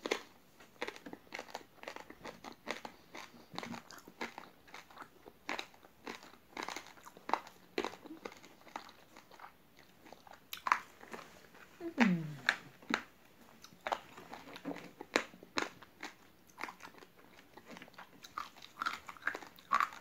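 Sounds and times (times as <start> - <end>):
crunching raw rice while chewing: 0.0 - 20.0.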